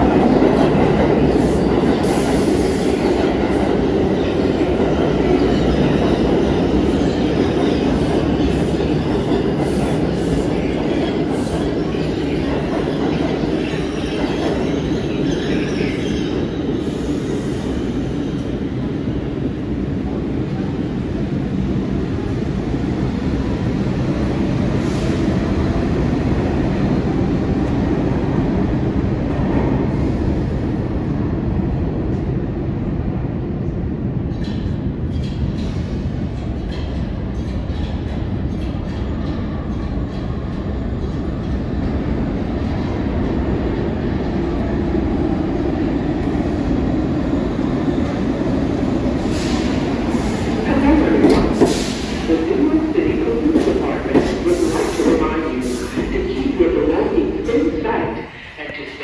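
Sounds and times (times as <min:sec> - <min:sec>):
subway train rumbling on tracks: 0:00.0 - 0:59.0
train pulling in: 0:00.0 - 0:59.0.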